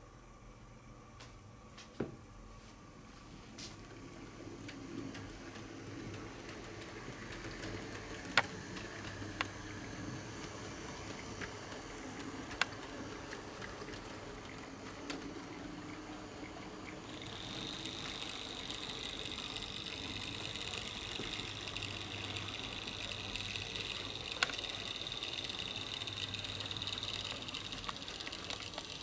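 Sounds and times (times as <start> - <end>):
model train motor and wheels: 4.0 - 29.0.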